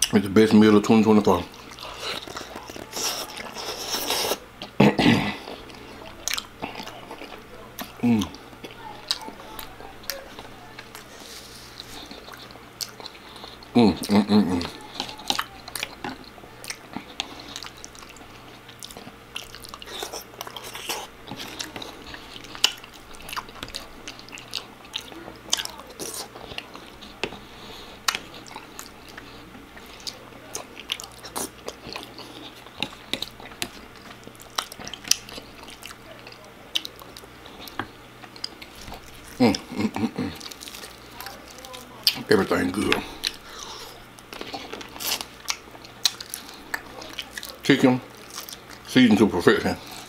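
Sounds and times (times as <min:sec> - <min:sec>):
person biting and chewing food: 0:01.5 - 0:48.9.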